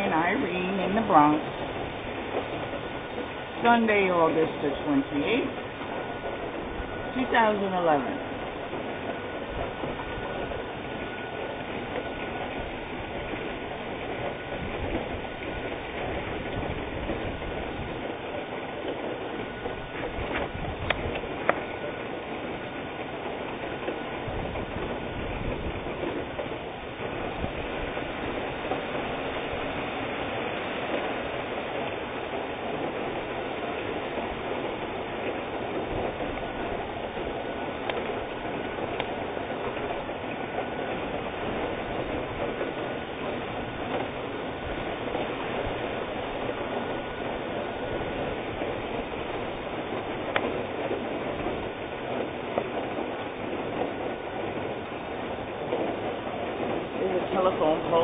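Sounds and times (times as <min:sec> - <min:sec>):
strong wind and heavy rain: 0:00.0 - 0:58.0.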